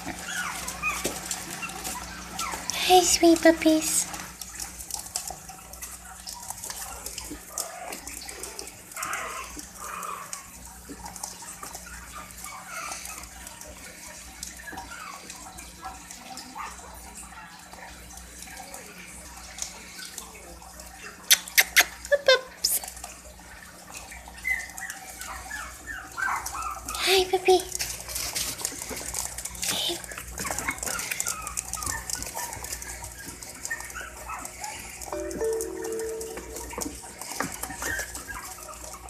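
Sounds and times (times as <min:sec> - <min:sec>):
puppies licking and slurping: 0:00.0 - 0:39.0.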